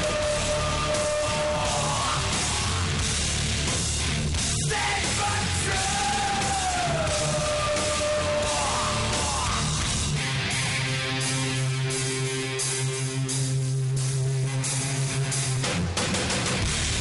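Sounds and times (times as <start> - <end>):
heavy rock music: 0.0 - 17.0.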